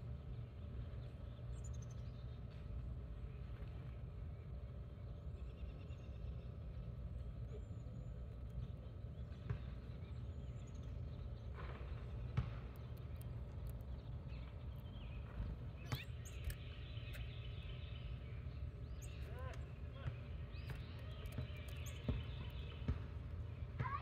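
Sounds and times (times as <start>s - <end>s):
distant bird chirps: 0.0s - 24.0s
low outdoor rumble: 0.0s - 24.0s.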